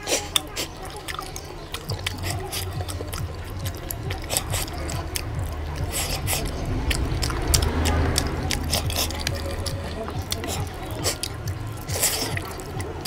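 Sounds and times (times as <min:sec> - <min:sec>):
wet chewing sounds: 0:00.0 - 0:13.0.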